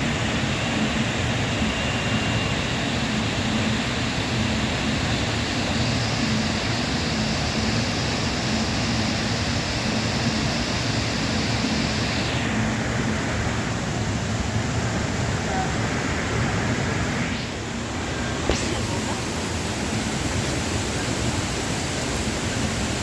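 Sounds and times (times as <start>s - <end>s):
high hiss: 0.0s - 23.0s
rushing water: 0.0s - 23.0s.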